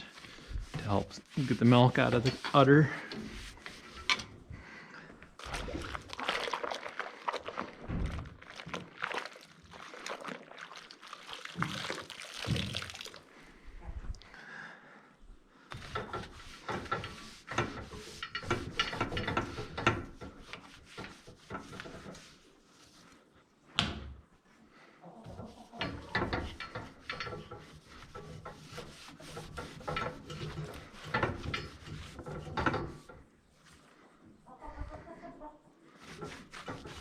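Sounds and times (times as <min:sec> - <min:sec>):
brush scrubbing pipes: 0:00.0 - 0:04.5, 0:05.2 - 0:13.2, 0:15.7 - 0:23.5, 0:25.2 - 0:37.0.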